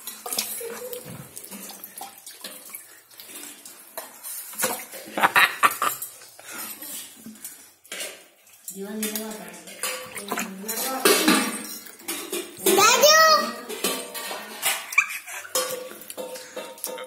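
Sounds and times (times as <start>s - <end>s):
water splashing in a plastic bucket: 0.0s - 17.0s.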